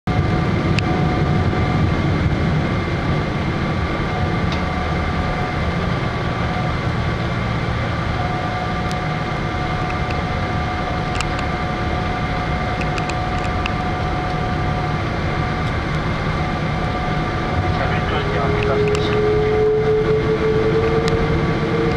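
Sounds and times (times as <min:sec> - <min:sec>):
airliner cabin low rumble: 0:00.1 - 0:21.9
steady whining tones: 0:00.1 - 0:21.9.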